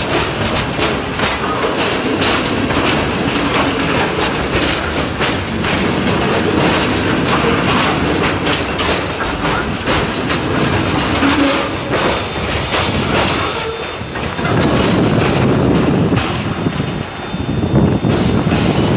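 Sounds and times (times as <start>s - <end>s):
train wheels rumbling on rails: 0.0s - 18.9s
wheels clicking over rail joints: 0.0s - 18.9s.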